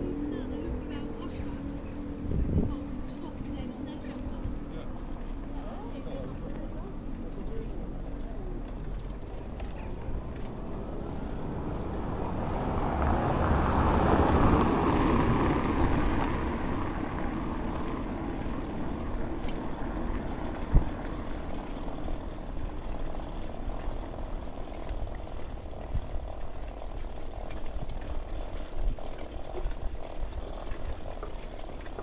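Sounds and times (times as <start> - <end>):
wind buffeting microphone: 0.6 - 5.2, 10.2 - 32.0
bicycle tyres rumbling on bricks: 0.7 - 32.0.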